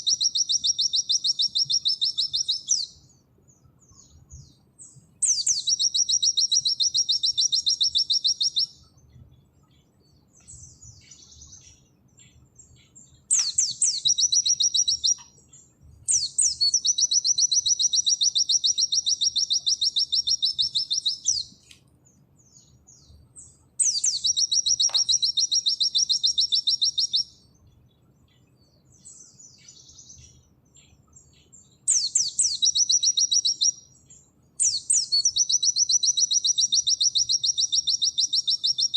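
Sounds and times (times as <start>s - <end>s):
soft twittering chirps: 0.0s - 38.9s.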